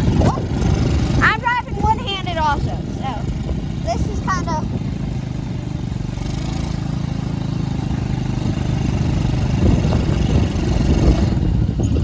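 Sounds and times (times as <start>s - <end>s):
go-kart motor rumble: 0.0s - 12.0s.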